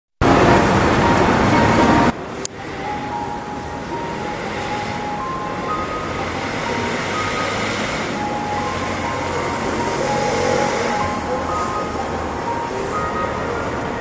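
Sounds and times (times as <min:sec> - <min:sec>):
city traffic noise: 0:00.2 - 0:14.0.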